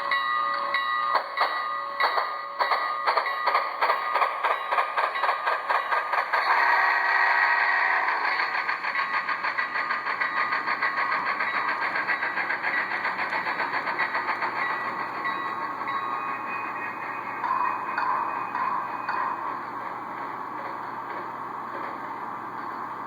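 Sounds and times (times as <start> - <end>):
model locomotive exhaust chuffs: 1.2 - 23.0.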